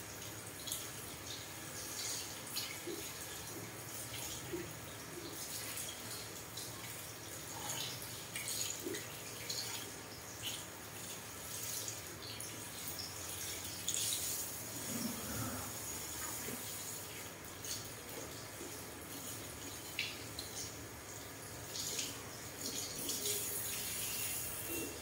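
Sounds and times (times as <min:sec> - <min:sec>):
water splashes and drips: 0:00.0 - 0:15.0, 0:15.8 - 0:25.0
shower sprayer water running: 0:00.0 - 0:25.0.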